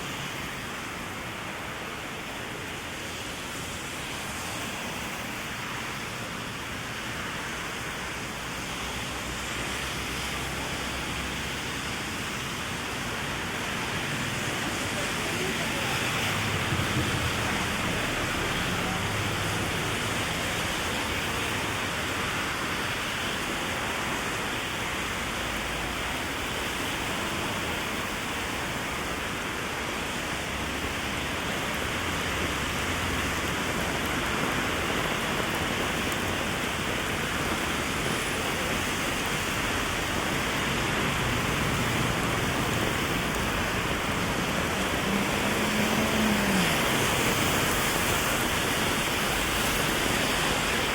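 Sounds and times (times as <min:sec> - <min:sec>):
heavy rain on an umbrella: 0:00.0 - 0:50.9.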